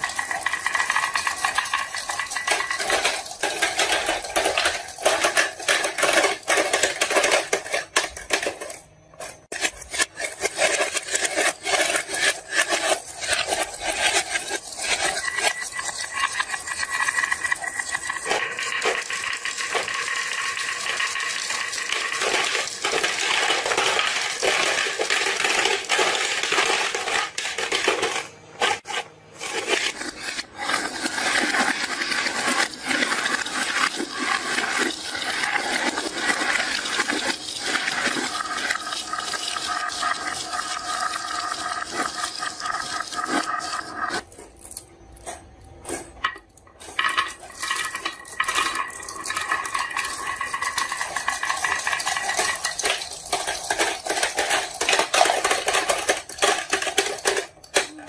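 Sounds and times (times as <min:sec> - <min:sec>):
marbles clattering down wooden run: 0:00.0 - 0:42.9, 0:46.2 - 0:58.0.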